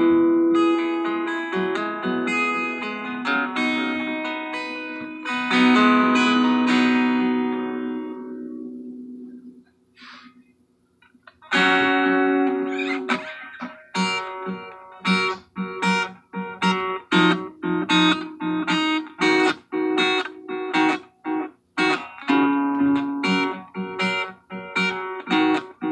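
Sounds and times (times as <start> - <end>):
acoustic guitar strumming: 0.0 - 10.2, 11.2 - 25.9.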